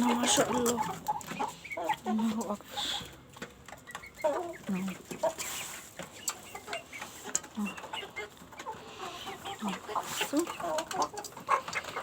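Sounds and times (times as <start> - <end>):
hens clucking and chicks peeping: 0.0 - 12.0
small ticks and knocks: 0.6 - 12.0.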